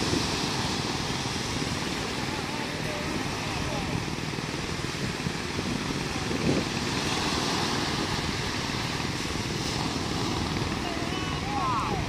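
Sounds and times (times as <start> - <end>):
surf washing onto beach: 0.0 - 12.0
wind on microphone: 0.0 - 12.0.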